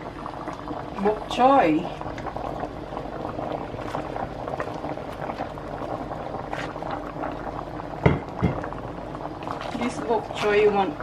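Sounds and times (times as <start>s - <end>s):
pot of broth boiling: 0.0s - 11.0s.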